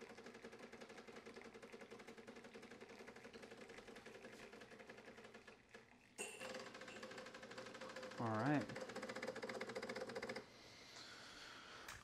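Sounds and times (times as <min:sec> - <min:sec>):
espresso machine pump buzzing: 0:00.0 - 0:10.5.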